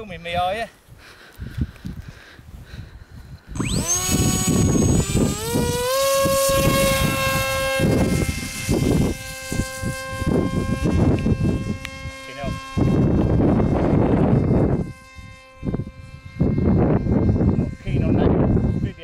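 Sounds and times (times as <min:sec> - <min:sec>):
wind rumbling on microphone: 0:00.0 - 0:19.0
model plane propeller whine: 0:03.3 - 0:19.0.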